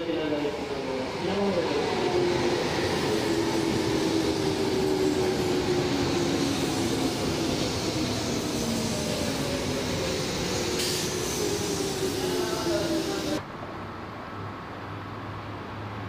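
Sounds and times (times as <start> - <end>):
train wheels on rail: 0.2 - 13.4.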